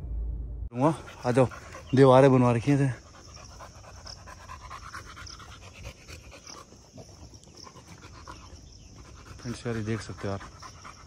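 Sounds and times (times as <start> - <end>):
dog panting: 0.8 - 11.0.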